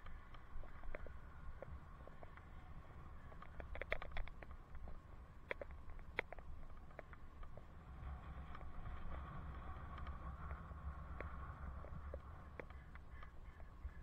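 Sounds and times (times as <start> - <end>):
scattered clicks: 0.0 - 2.5, 3.2 - 7.7, 8.4 - 13.8
bicycle tyres rumbling on asphalt: 0.0 - 14.0.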